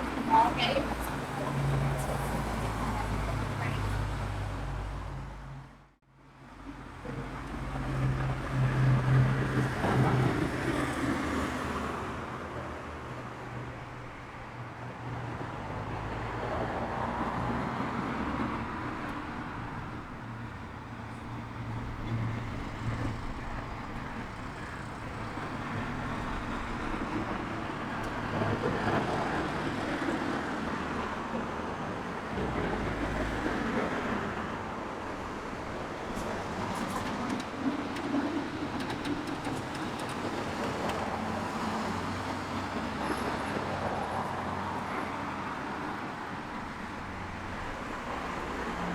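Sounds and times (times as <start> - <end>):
road traffic passing: 0.0 - 5.8, 7.0 - 37.2, 39.0 - 48.9.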